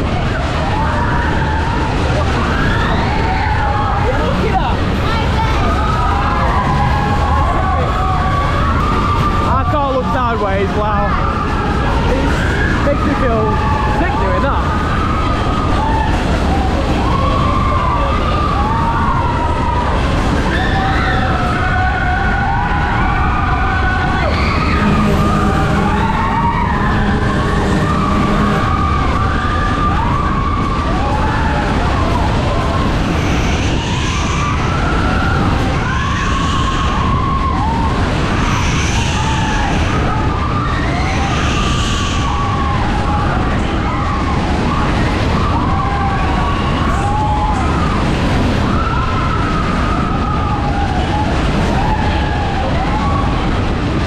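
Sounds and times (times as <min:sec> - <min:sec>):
ride low rumble: 0:00.0 - 0:54.0
riders screaming and whooping: 0:00.0 - 0:54.0
rushing of ride cars: 0:00.0 - 0:54.0.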